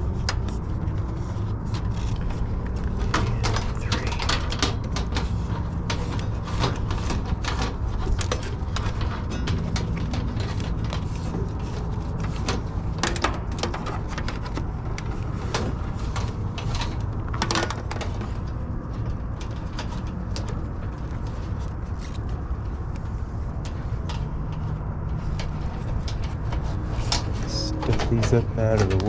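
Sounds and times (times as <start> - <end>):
clicks and knocks of hand work: 0.0 - 29.0
steady low rumble: 0.0 - 29.0.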